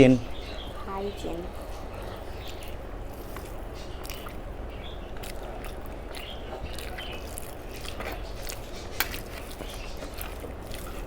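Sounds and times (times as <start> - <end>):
steady low hum: 0.0 - 11.0
chewing: 0.3 - 11.0
food handling clicks and crackles: 1.8 - 11.0.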